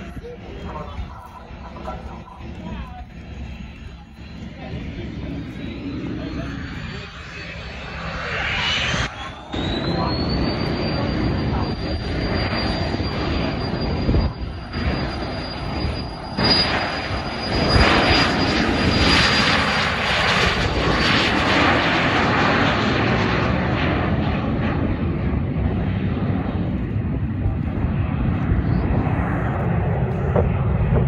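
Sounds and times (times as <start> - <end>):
jet engine whine: 0.0 - 31.0
rushing jet noise: 4.5 - 31.0.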